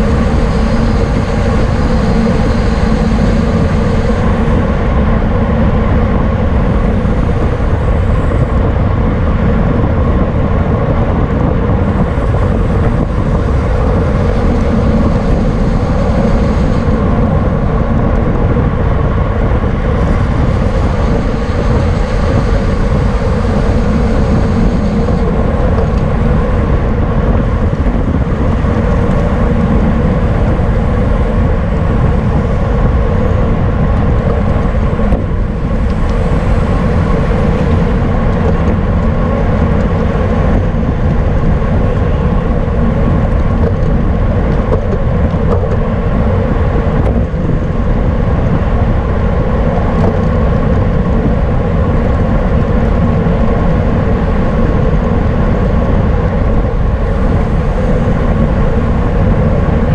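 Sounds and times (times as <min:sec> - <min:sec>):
bicycle road noise: 0:00.0 - 0:59.9
wind buffeting on microphone: 0:00.0 - 0:59.9
wind rush: 0:00.0 - 0:59.9.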